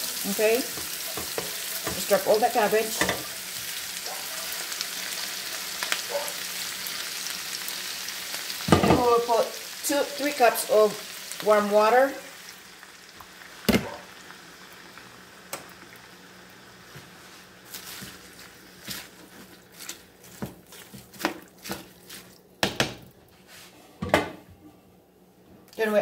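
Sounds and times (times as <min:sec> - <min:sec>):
low sizzle: 0:00.0 - 0:26.0.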